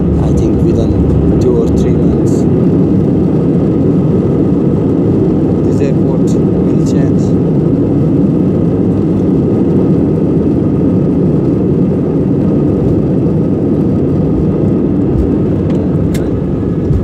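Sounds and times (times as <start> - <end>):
faint steady whine: 0.0 - 17.0
jet engines rumbling: 0.0 - 17.0.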